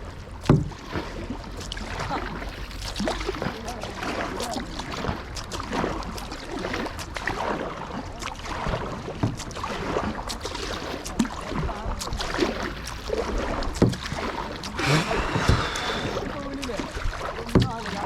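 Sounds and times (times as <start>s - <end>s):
paddle strokes knocking and splashing: 0.0s - 18.0s
water splashing and rushing: 0.0s - 18.0s.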